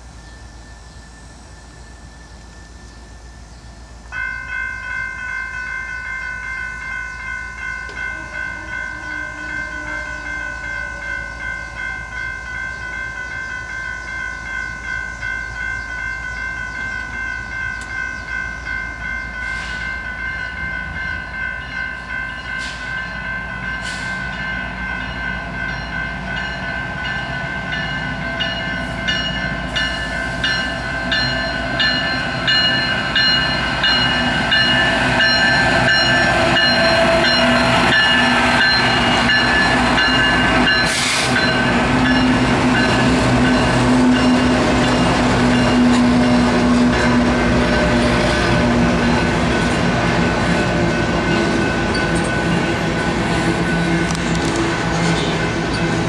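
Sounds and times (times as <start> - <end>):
railroad crossing bell ringing: 0.0 - 56.0
diesel locomotive rumble: 7.6 - 56.0.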